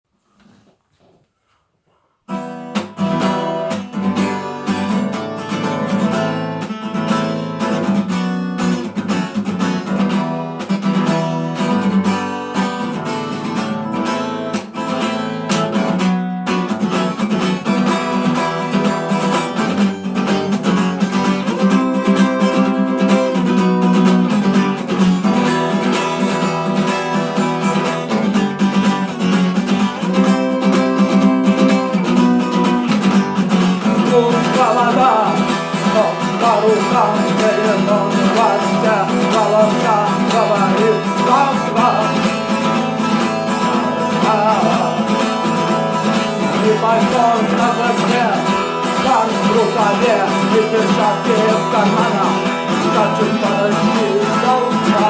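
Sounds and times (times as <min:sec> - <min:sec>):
acoustic guitar strumming: 0:02.3 - 0:55.0.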